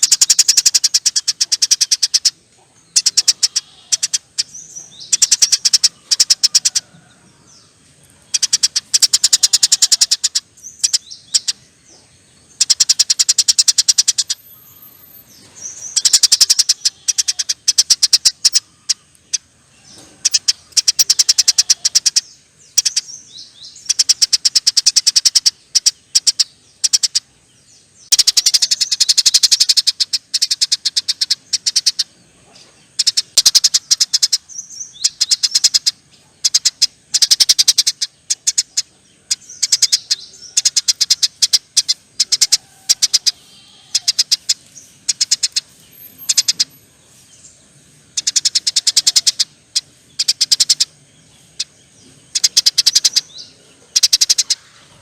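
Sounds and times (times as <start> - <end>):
sparrows chattering: 0.0 - 55.0.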